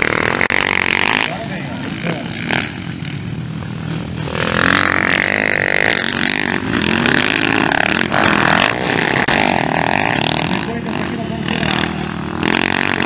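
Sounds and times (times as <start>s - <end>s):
dirt bikes racing past: 0.0s - 13.0s.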